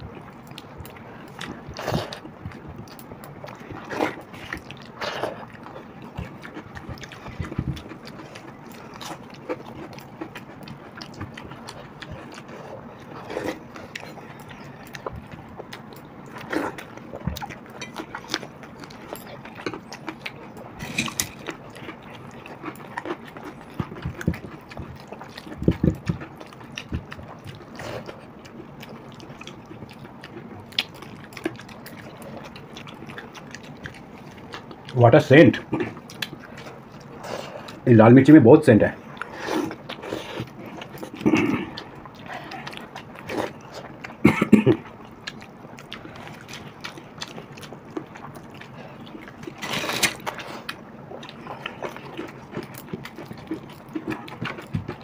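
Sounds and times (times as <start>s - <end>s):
chewing and mouth sounds: 0.0s - 38.0s, 38.8s - 55.0s.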